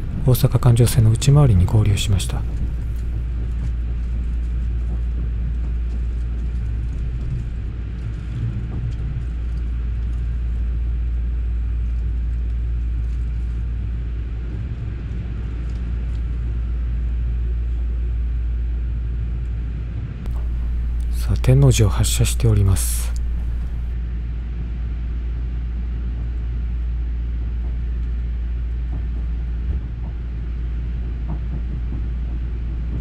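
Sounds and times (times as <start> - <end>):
train running rumble from inside: 0.0 - 18.8, 20.3 - 24.0, 25.2 - 33.0.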